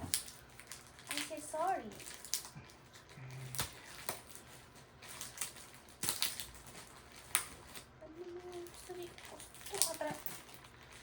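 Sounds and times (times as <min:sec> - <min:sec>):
tape and packaging crackling: 0:00.0 - 0:11.0.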